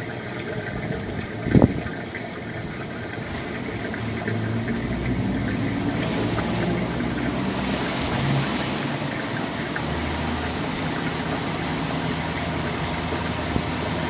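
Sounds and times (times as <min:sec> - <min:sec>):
engine idling: 0:02.6 - 0:14.0.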